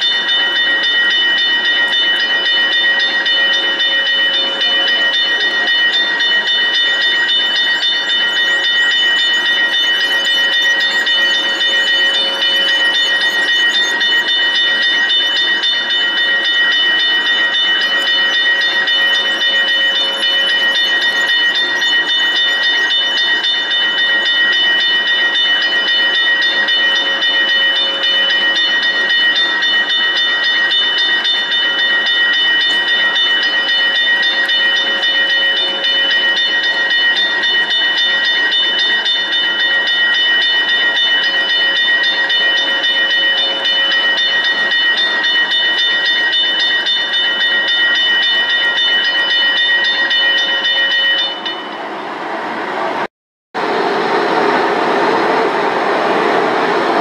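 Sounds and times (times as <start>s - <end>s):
high-pitched whining tones: 0.0s - 51.8s.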